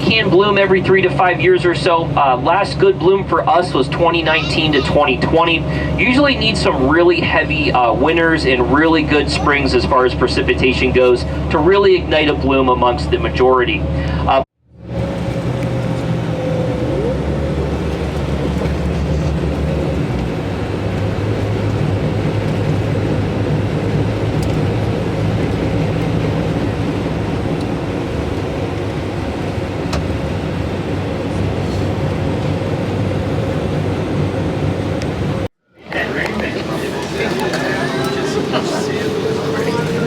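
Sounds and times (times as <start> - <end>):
bus engine drone: 0.0 - 40.0
rushing road noise: 0.0 - 40.0.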